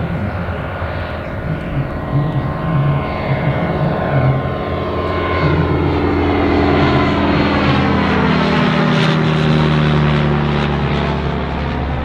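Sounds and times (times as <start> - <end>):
propeller aircraft flying past: 0.0 - 12.0.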